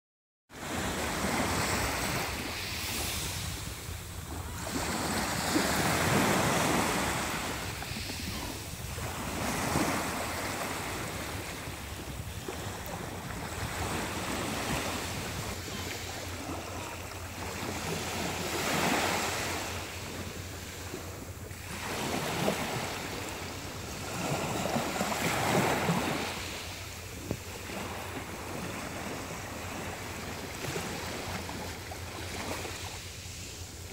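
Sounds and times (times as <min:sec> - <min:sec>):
waves washing over pebbles: 0:00.7 - 0:33.9.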